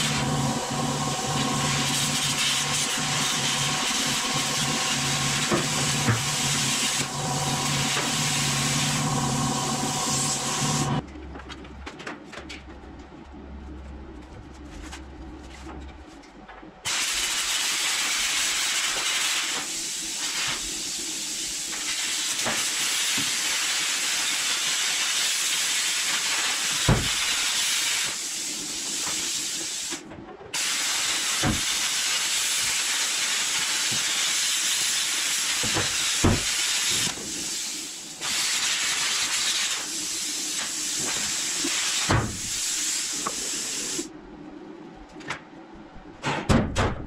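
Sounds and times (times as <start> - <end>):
arc welding crackling hiss: 0.0 - 11.0, 16.8 - 44.1.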